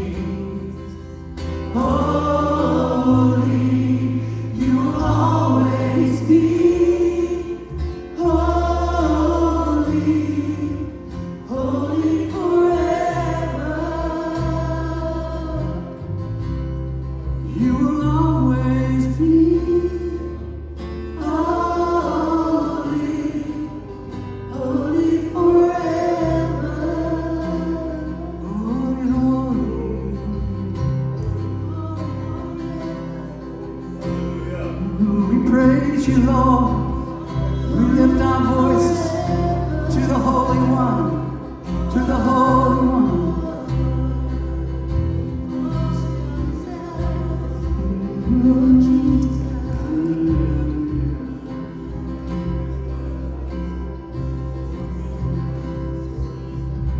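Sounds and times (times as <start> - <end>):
choir singing gospel: 0.0 - 52.8
instrumental backing with bass: 0.0 - 56.9.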